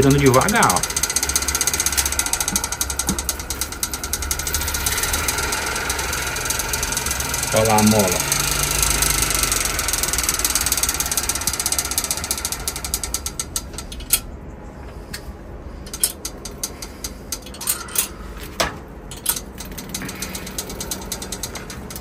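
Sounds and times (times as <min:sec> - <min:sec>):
bicycle freewheel ratchet clicking: 0:00.0 - 0:14.3, 0:15.8 - 0:18.1, 0:19.1 - 0:22.0.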